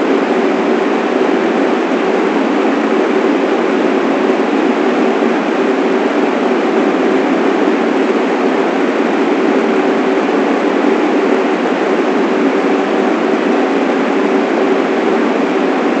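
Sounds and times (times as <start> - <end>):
faint steady hum: 0.0 - 16.0
subway train rumble: 0.0 - 16.0.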